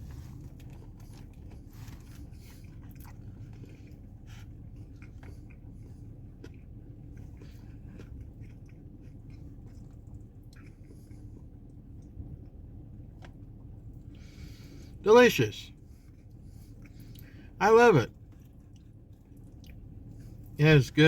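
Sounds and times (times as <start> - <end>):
person chewing food: 0.0 - 15.0, 15.8 - 20.6
steady low hum: 0.0 - 21.0.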